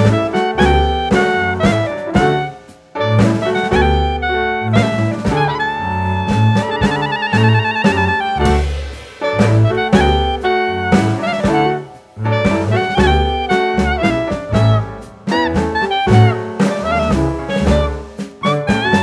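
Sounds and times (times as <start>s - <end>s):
drums: 0.0s - 19.0s
saxophone-like horn melody: 0.0s - 19.0s
walking bass: 0.0s - 19.0s.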